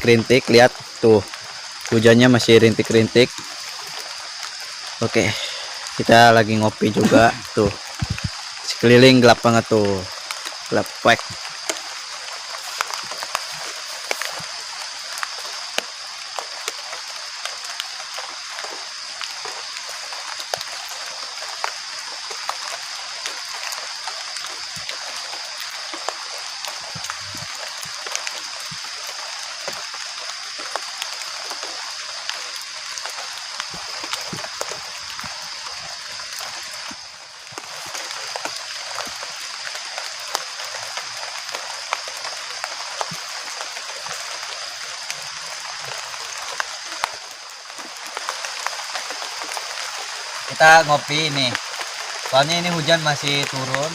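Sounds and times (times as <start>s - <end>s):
drips and sharp ticks: 0.0s - 53.9s
high-pitched hiss: 0.0s - 53.9s
light rain falling: 0.0s - 53.9s.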